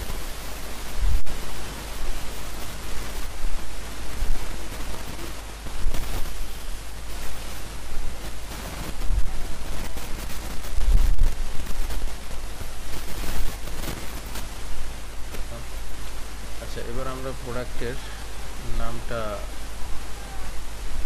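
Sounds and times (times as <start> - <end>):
microphone hiss and hum: 0.0 - 21.0.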